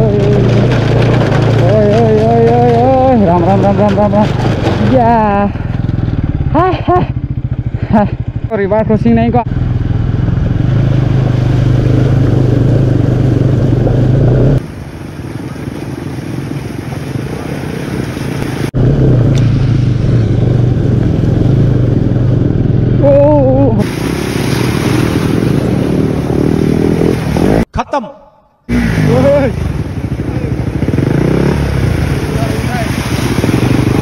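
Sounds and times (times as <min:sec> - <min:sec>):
motorcycle engine running: 0:00.0 - 0:27.7, 0:28.7 - 0:34.0.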